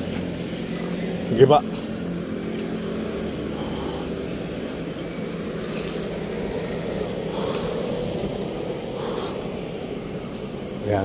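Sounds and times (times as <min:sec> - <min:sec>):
passing road vehicles rumble: 0:00.0 - 0:11.0.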